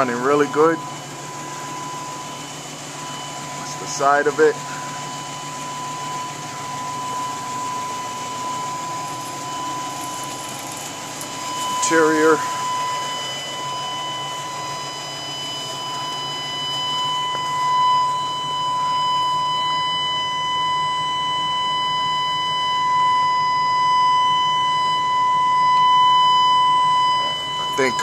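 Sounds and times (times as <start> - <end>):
door-open warning buzzer: 0.0 - 28.0
truck engine idling: 0.0 - 28.0.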